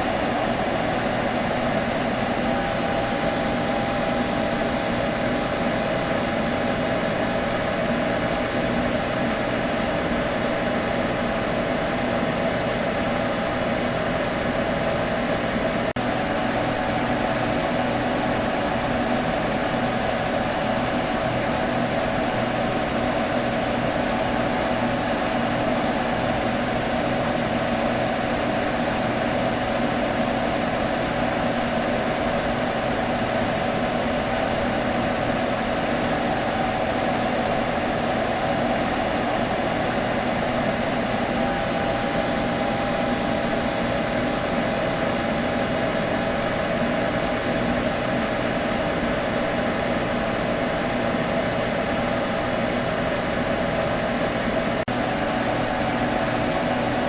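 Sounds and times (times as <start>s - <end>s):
computer fan hum: 0.0s - 57.0s.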